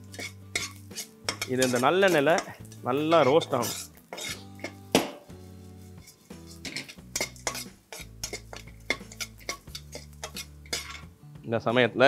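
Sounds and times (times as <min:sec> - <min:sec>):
metal spatula scraping a pan: 0:00.0 - 0:11.2.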